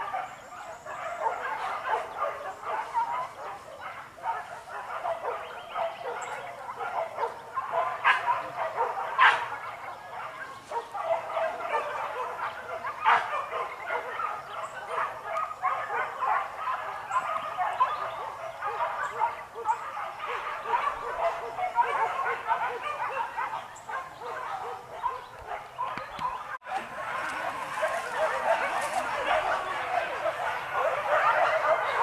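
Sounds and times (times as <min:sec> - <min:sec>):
dogs barking and yelping: 0:00.0 - 0:32.0.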